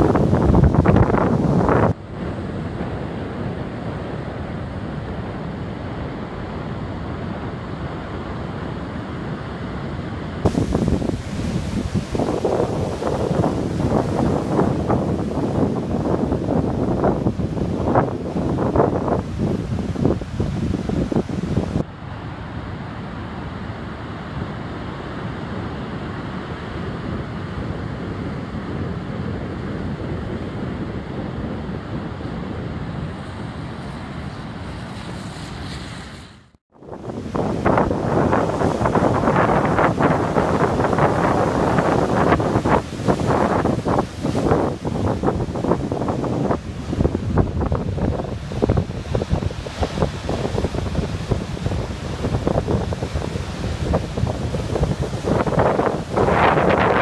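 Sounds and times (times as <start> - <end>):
surf breaking on beach: 0.0 - 57.0
wind rumble on microphone: 0.0 - 57.0.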